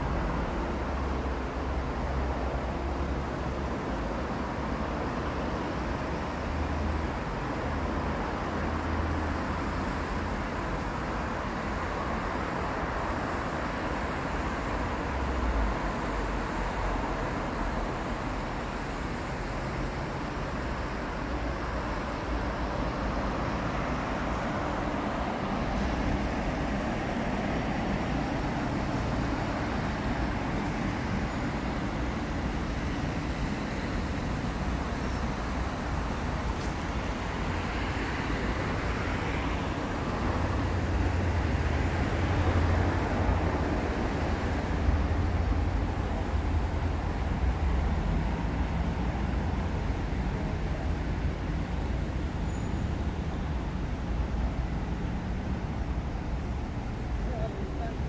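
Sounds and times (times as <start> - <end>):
cars passing: 0.0 - 58.0
heavy vehicle rumble: 0.0 - 58.0.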